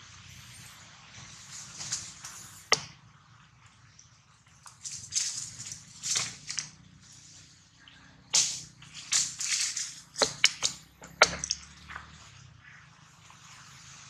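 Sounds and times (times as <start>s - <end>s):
rustling in dry leaves: 0.0s - 2.8s, 4.5s - 14.0s.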